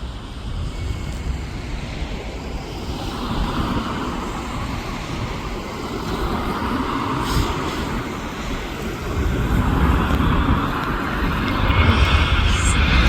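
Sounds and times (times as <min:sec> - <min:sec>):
jet engine noise: 0:00.0 - 0:13.0
wind on microphone: 0:00.0 - 0:13.0.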